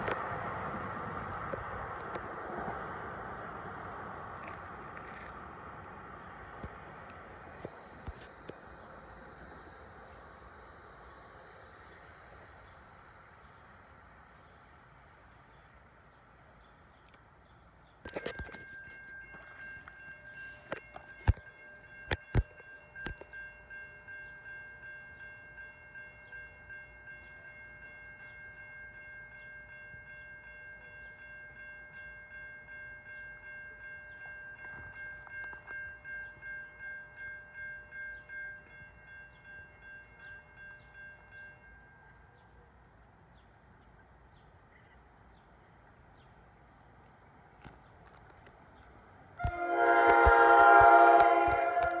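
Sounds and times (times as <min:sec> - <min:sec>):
railroad crossing bell ringing: 0:00.0 - 0:43.2, 0:47.6 - 0:52.0.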